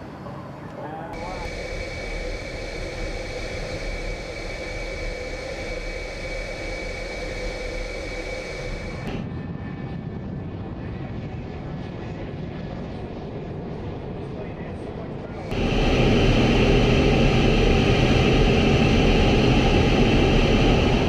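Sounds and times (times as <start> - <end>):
dull engine rumble: 0.0 - 21.0
jet engine whine: 0.0 - 21.0.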